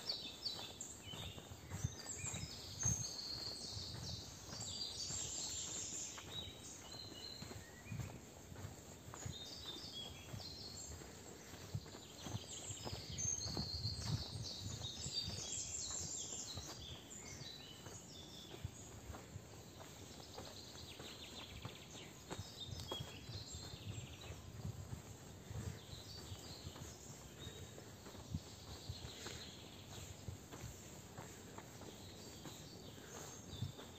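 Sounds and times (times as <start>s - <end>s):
soft footsteps on a path: 0.0s - 33.9s
songbirds chirping and trilling: 0.0s - 33.9s.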